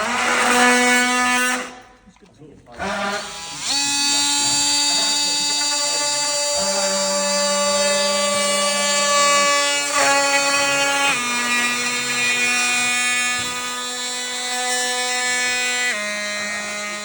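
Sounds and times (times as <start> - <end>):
electric multi-tool whining: 0.0 - 1.8, 2.8 - 17.0.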